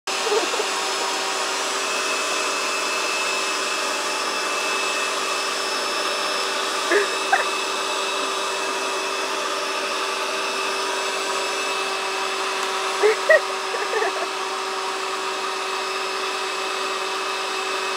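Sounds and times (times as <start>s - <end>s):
vacuum cleaner running: 0.0s - 17.9s.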